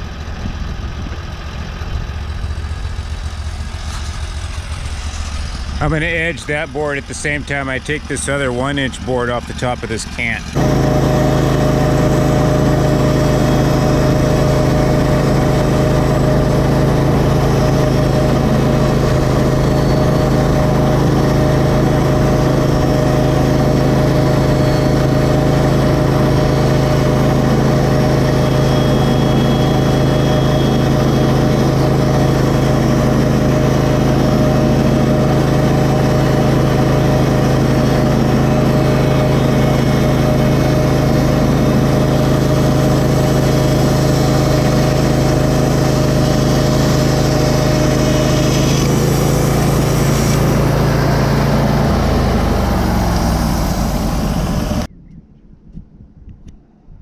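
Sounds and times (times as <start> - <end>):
sawmill engine running: 0.0 - 54.9
saw blade cutting wood: 3.5 - 54.9.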